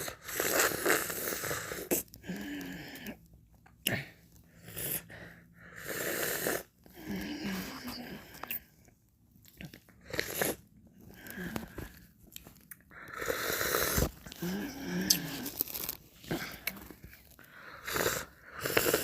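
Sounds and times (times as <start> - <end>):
licking and chewing ice cream: 0.0 - 5.7, 6.6 - 19.0.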